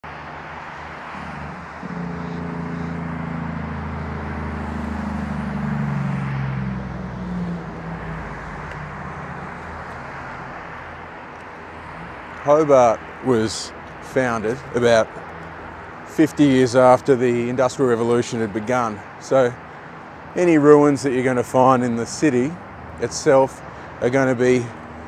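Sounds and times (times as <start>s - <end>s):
heavy vehicle passing: 0.0s - 25.0s
highway traffic noise: 0.0s - 25.0s.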